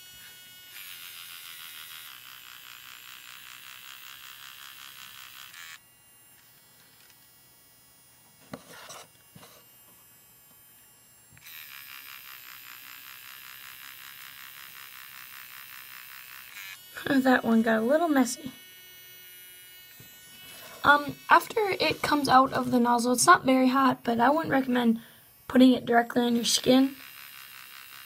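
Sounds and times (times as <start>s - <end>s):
pen motor whirring buzz: 0.0s - 7.3s, 11.3s - 23.4s, 24.4s - 28.0s.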